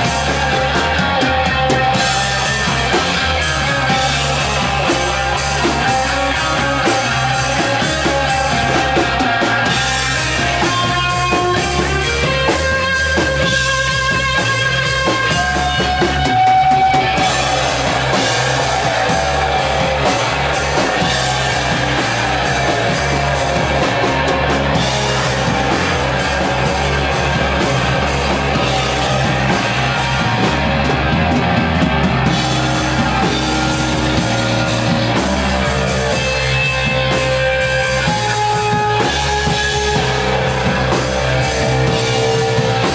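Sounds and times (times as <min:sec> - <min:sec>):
drums: 0:00.0 - 0:42.9
fuzzed electric guitar: 0:00.0 - 0:42.9
metal band playing live: 0:00.0 - 0:42.9.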